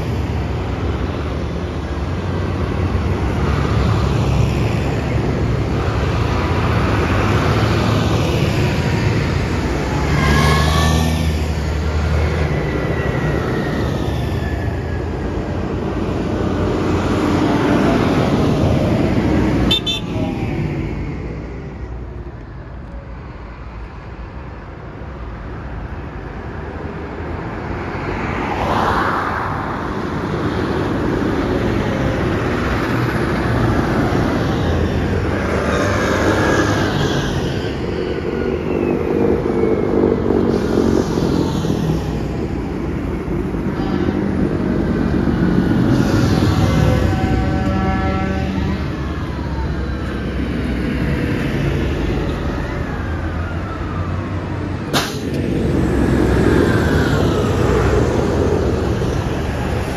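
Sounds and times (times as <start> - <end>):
vehicles passing on wet road: 0.0 - 59.9.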